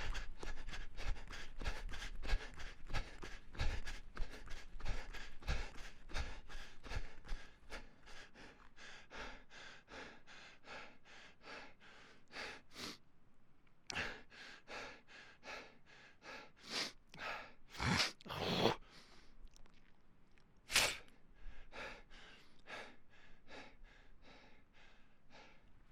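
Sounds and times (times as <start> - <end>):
deep gasps: 0.0 - 13.0, 13.9 - 19.4, 21.0 - 25.7
person panting while running: 0.0 - 13.0, 13.9 - 17.6, 21.4 - 25.7.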